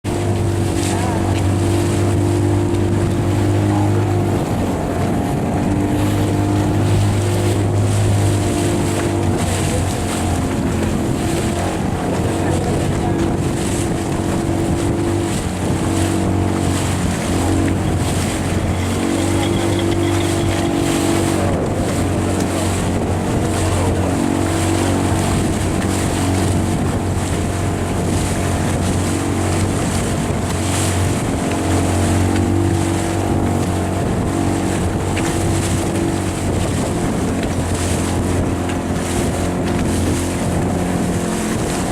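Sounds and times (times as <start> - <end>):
outboard motor running: 0.0 - 41.9
water rushing past: 0.0 - 41.9
wind buffeting microphone: 0.0 - 41.9.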